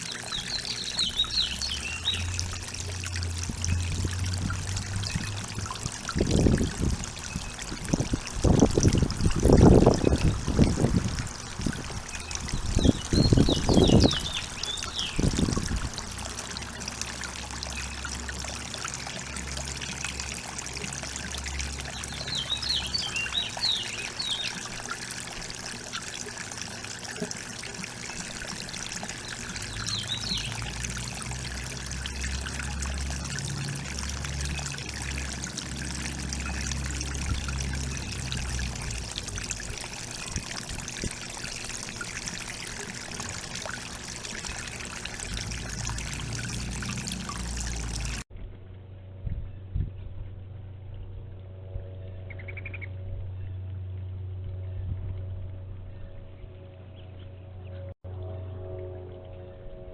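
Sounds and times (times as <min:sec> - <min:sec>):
water trickling: 0:00.0 - 0:48.3.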